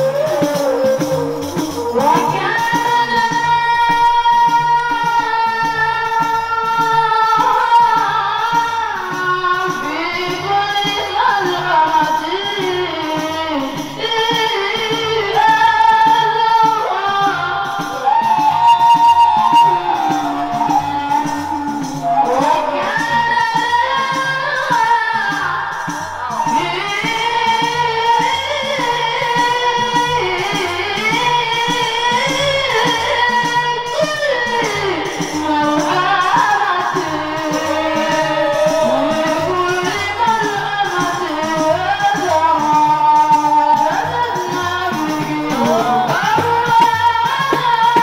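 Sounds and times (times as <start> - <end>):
boy singing into a microphone: 0.0 - 48.0
jingling percussion: 0.0 - 48.0
steady drum beat: 0.0 - 48.0.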